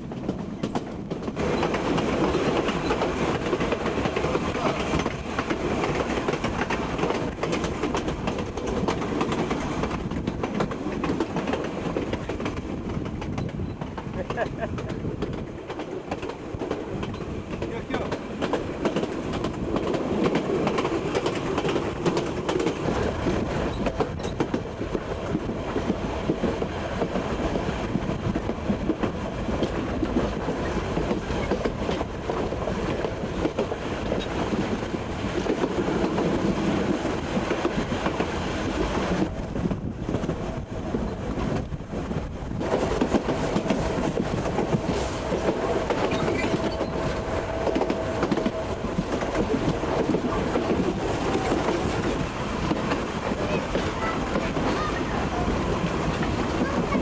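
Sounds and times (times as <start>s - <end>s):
train coaches rumbling and rattling: 0.0s - 57.0s.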